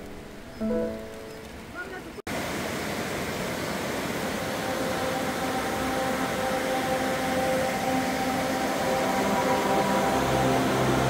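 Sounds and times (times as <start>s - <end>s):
stream rushing over rocks: 2.0s - 11.0s.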